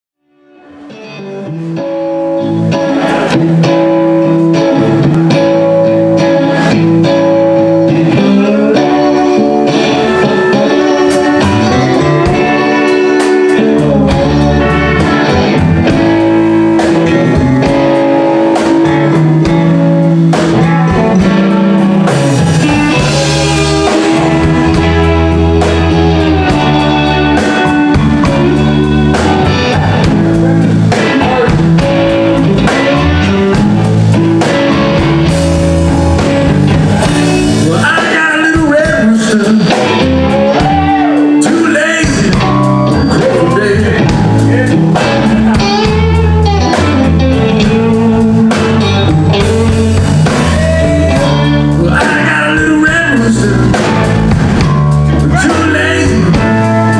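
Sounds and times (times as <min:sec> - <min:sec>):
electric bass: 0:00.2 - 0:56.9
electric guitars: 0:00.2 - 0:56.9
drum kit: 0:00.7 - 0:56.9.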